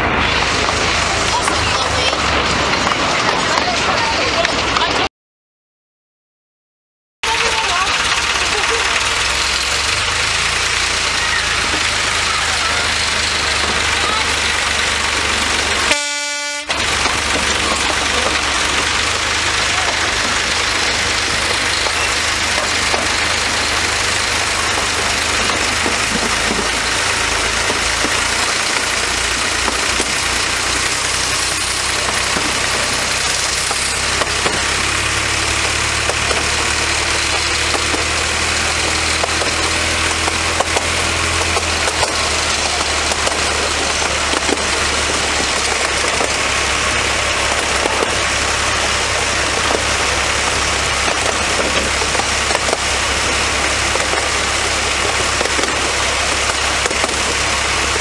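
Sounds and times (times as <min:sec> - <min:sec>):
diesel locomotive engine running: 0:00.0 - 0:05.1, 0:07.2 - 0:58.0
second low engine tone: 0:07.2 - 0:58.0
hiss of travel noise: 0:07.7 - 0:58.0.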